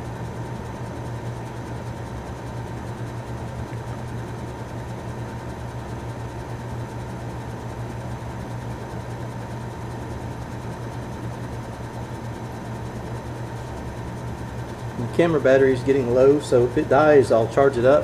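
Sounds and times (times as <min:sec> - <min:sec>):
compressor motor humming: 0:00.0 - 0:18.0
fan blowing: 0:00.0 - 0:18.0.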